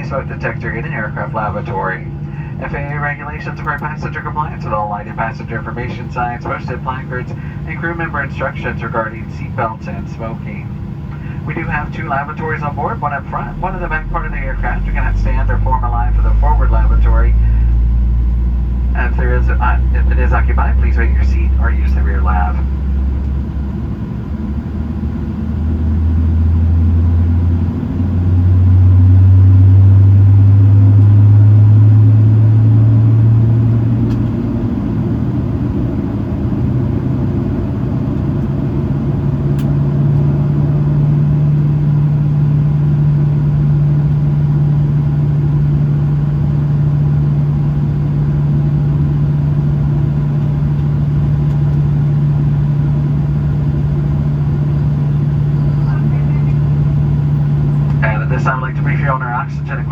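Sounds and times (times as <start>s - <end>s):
jet engines heard from cabin: 0.0s - 59.9s.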